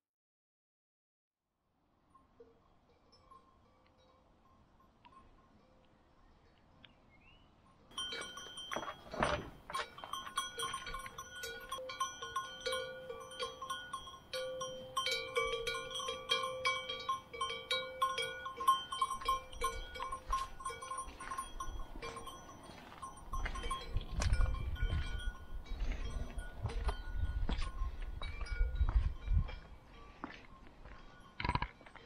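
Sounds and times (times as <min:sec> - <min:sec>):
livestock bells clanking: 0:02.1 - 0:05.9, 0:07.6 - 0:32.0.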